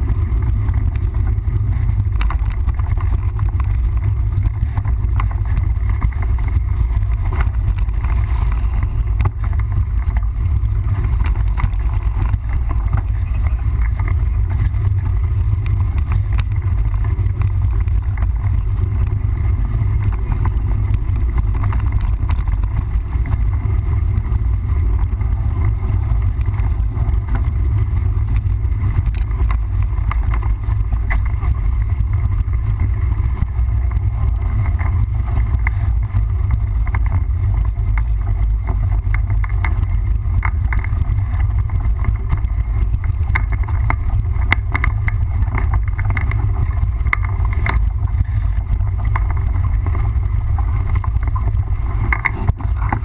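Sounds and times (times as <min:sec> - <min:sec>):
bike knocks and rattles: 0:00.0 - 0:53.0
wind rumble on microphone: 0:00.0 - 0:53.0.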